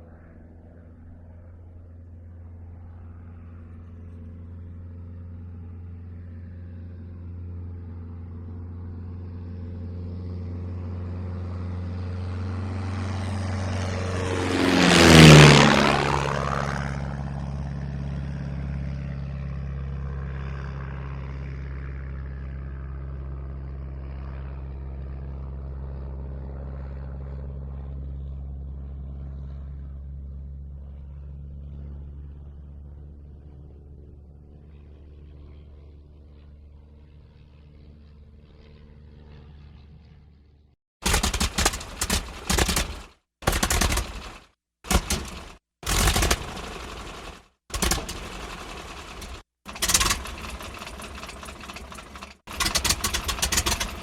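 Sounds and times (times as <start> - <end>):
propeller airplane engine drone: 0.0 - 54.0.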